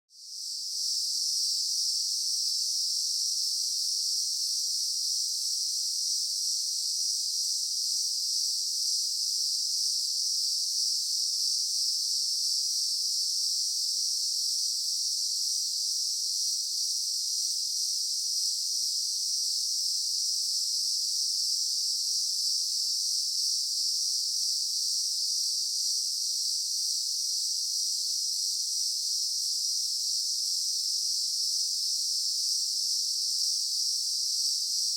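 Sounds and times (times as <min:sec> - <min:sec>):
insect chorus buzzing: 0:00.3 - 0:05.5, 0:06.2 - 0:34.9.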